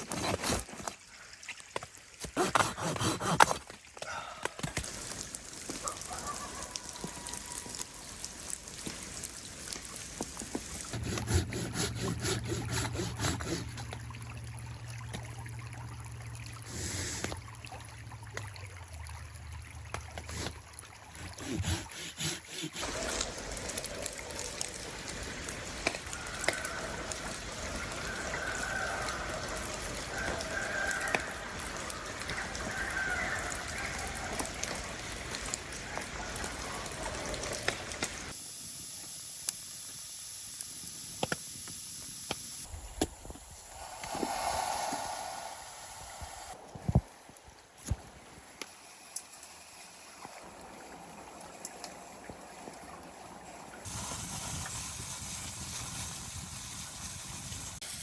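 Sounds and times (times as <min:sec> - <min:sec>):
stream trickling: 0:00.0 - 0:38.7, 0:42.6 - 0:58.0.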